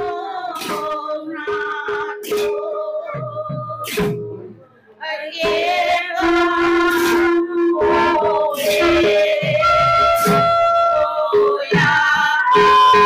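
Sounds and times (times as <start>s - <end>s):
woman singing into a microphone: 0.0s - 4.2s, 5.0s - 13.0s
barrel drum: 0.0s - 4.6s, 5.4s - 13.0s.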